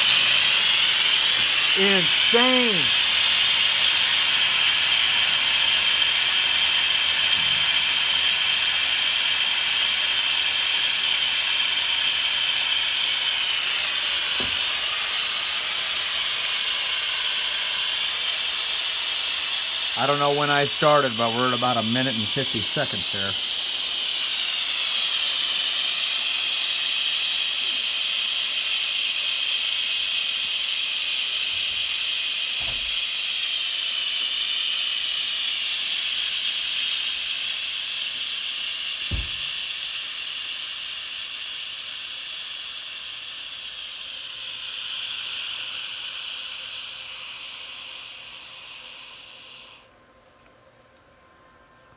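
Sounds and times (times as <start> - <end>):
gas hissing from cylinder valve: 0.0 - 49.9.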